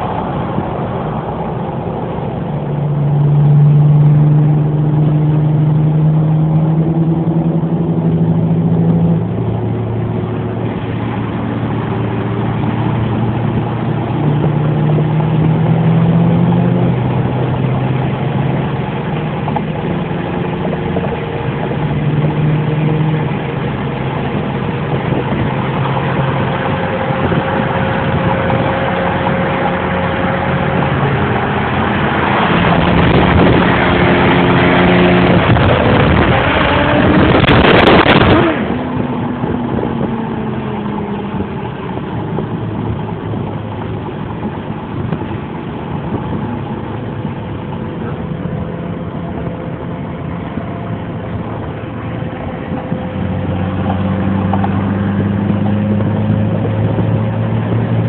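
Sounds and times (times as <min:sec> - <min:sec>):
car engines running and revving: 0:00.0 - 0:58.0.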